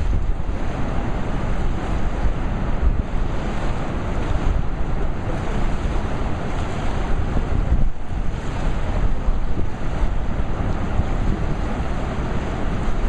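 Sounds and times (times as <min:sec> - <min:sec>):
river rapids rushing: 0:00.0 - 0:13.0
wind buffeting microphone: 0:00.0 - 0:13.0.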